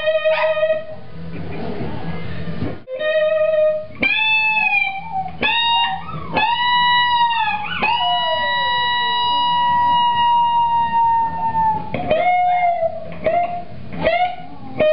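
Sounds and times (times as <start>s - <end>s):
dog howling: 0.0s - 1.0s, 3.0s - 14.9s
guitar playing: 2.9s - 14.9s.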